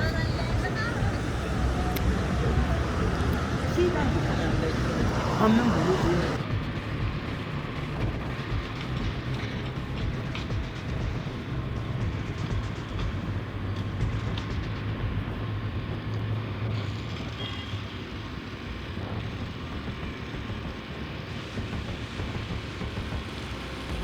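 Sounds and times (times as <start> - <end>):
heavy vehicle engine running: 0.0 - 24.0
street traffic: 0.0 - 24.0.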